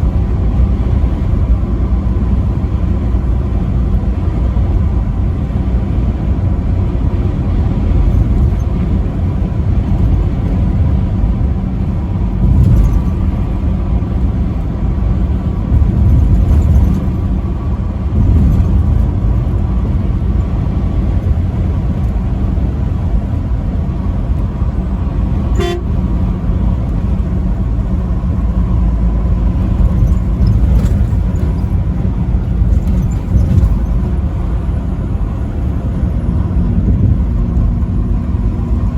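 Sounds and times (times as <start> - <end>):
highway traffic rumble: 0.0 - 38.9.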